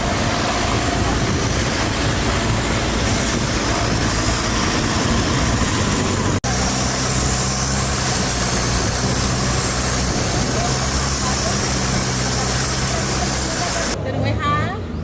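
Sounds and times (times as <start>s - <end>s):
boat engine running: 0.0s - 14.1s
loud rushing noise: 0.0s - 14.1s.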